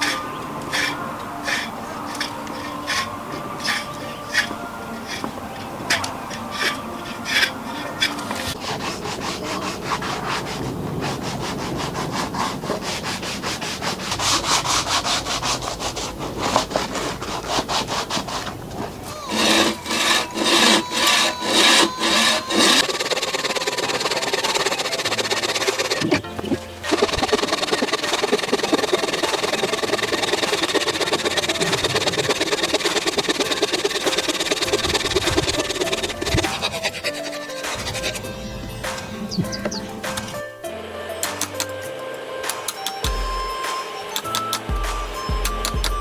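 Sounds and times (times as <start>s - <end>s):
hand tool rubbing on wood: 0.0s - 40.4s.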